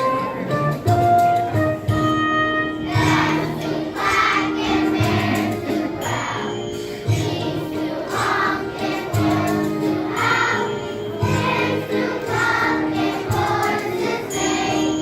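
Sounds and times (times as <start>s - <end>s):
children's choir singing: 0.0s - 1.2s, 2.6s - 15.0s
instrumental backing: 0.0s - 15.0s.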